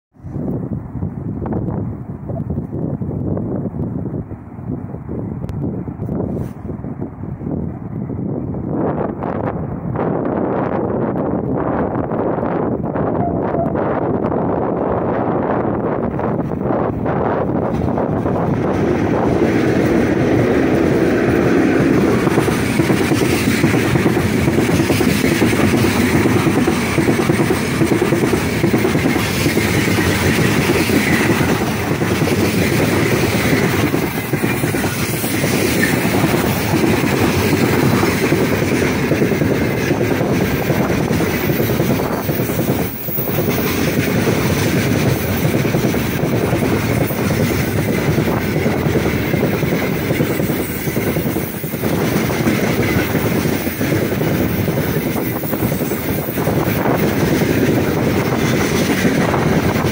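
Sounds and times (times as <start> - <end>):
freight train wheels on rails: 0.1 - 59.9.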